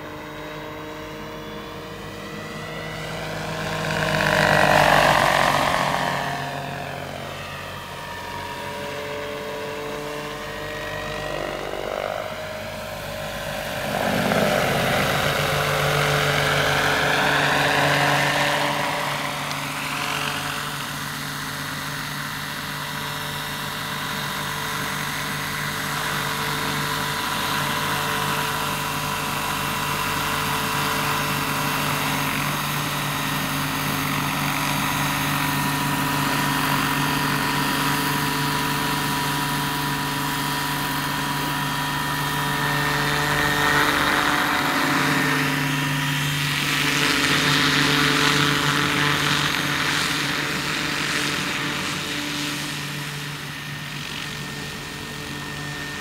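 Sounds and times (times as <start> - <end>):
model helicopter rotors whining: 0.0 - 56.0.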